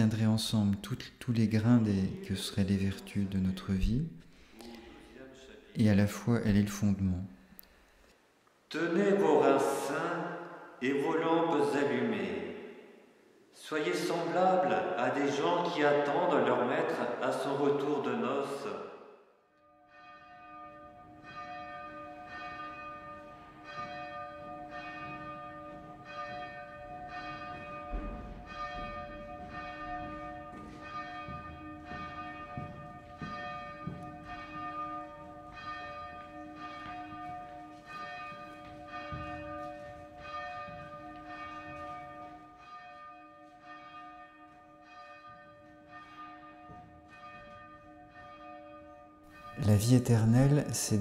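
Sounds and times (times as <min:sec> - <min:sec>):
church bell tolling: 0:00.0 - 0:05.2, 0:13.7 - 0:51.0.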